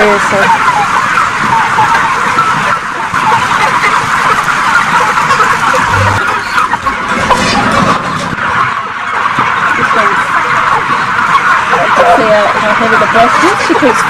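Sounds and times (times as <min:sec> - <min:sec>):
chickens clucking and peeping: 0:00.0 - 0:14.0.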